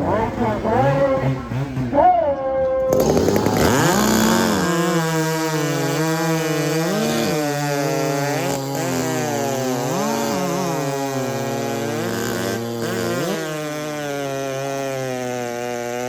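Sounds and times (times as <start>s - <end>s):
chainsaw engines revving: 0.0s - 16.0s.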